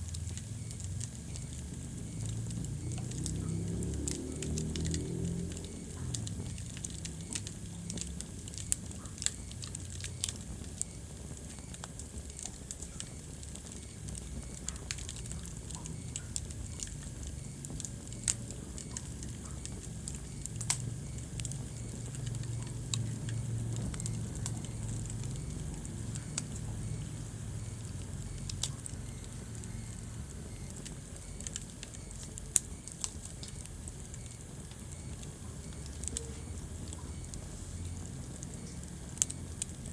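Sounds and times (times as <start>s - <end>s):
fire popping and crackling: 0.0s - 39.9s
wood fire flames rumbling: 0.0s - 39.9s.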